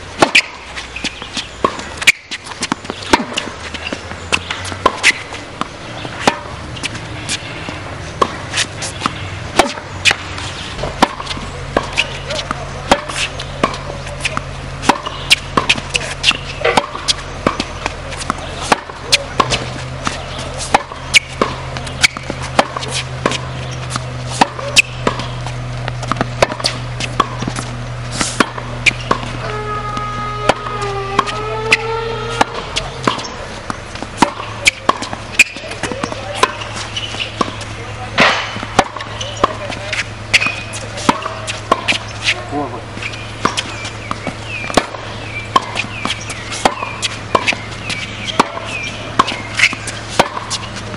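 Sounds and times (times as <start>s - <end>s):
racket striking tennis ball: 0.0s - 50.9s
steady low hum: 0.0s - 50.9s
tennis ball bouncing: 0.0s - 50.9s.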